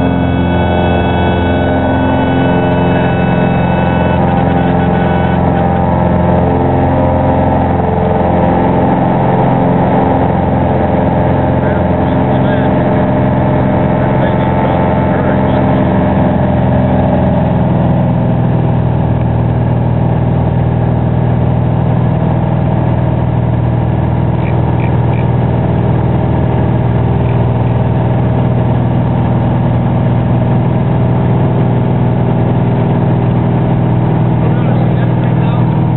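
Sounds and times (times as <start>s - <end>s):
airplane piston engine and propeller: 0.0s - 35.9s.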